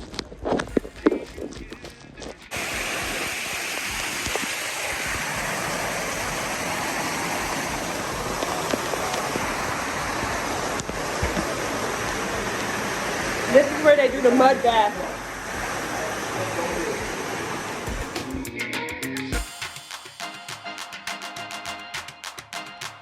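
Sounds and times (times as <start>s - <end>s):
rushing water: 0.0s - 18.6s.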